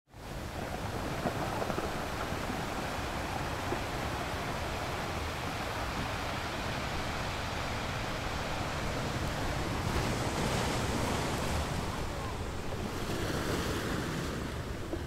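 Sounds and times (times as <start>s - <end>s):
steady outdoor hiss: 0.1s - 15.0s.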